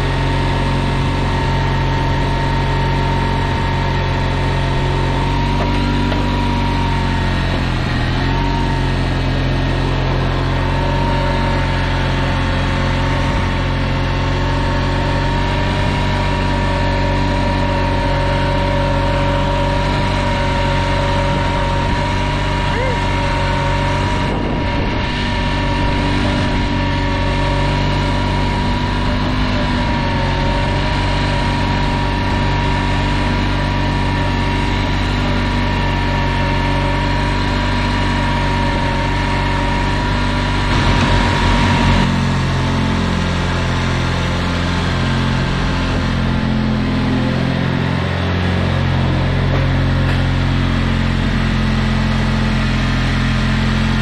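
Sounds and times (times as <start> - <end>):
high whine: 0.0 - 51.5
riding mower engine running: 0.0 - 54.0.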